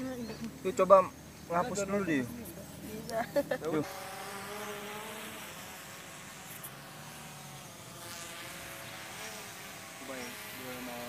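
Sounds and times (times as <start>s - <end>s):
quadcopter propellers buzzing: 0.0s - 11.0s.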